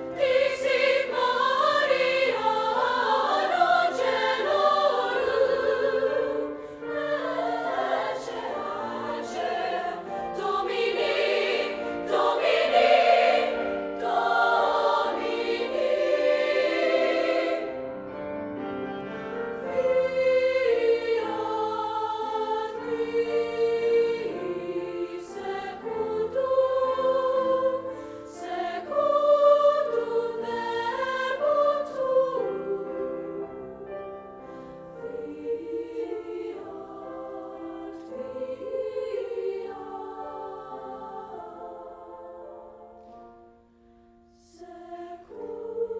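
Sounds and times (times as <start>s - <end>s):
choir singing sustained notes: 0.0s - 45.9s.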